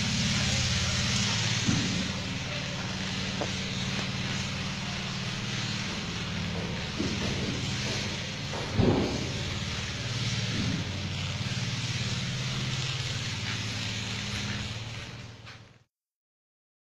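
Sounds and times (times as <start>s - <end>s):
even hiss: 0.0s - 15.9s
low mechanical hum: 0.0s - 15.9s.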